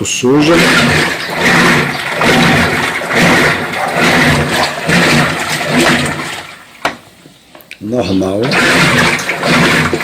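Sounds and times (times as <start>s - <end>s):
washing machine churning water: 0.0s - 7.0s, 7.9s - 10.0s.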